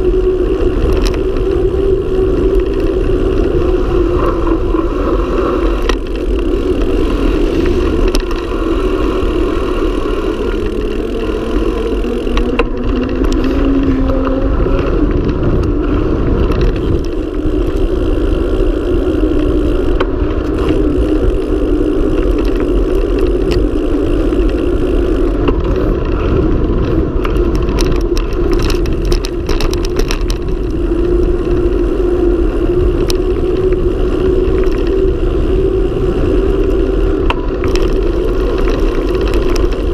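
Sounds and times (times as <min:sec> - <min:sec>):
bike rattling over bumps: 0:00.0 - 0:39.9
bike tyres humming on asphalt: 0:00.0 - 0:39.9
wind rushing over microphone: 0:00.0 - 0:39.9.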